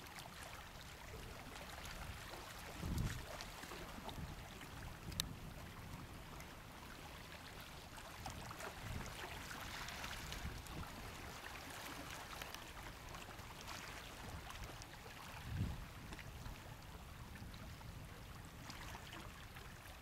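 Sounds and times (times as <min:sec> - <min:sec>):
small waves lapping on rocks: 0:00.0 - 0:20.0.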